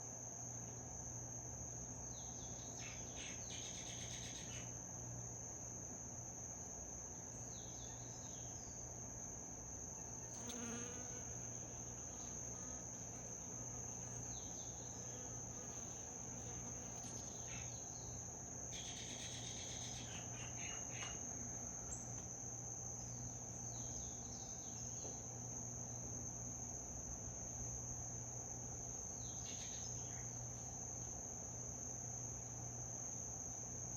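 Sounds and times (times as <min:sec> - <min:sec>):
insects trilling: 0:01.2 - 0:05.1, 0:07.1 - 0:33.9.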